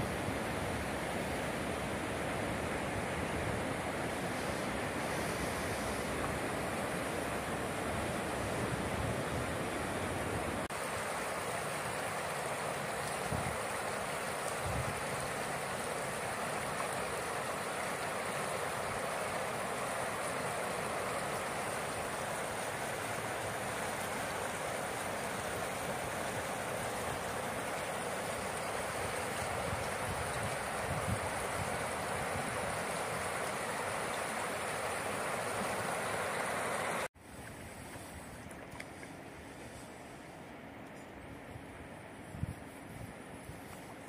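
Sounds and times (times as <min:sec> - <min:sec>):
river water rushing over stones: 0:00.7 - 0:37.1.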